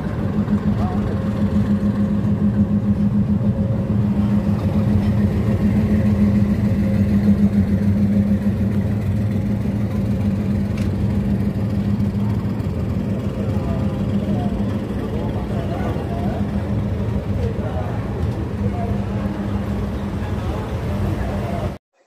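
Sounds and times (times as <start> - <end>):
low hum: 0.0 - 21.8
train running slowly: 0.0 - 21.8.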